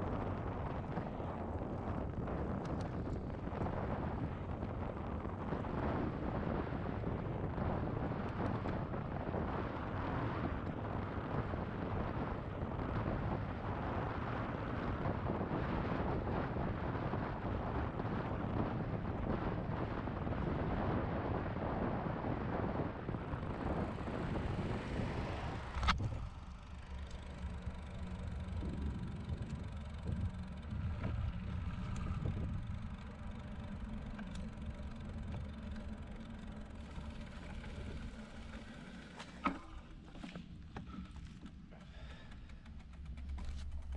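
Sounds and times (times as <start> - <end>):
low steady hum: 0.0 - 43.9
wind buffeting microphone: 0.0 - 43.9.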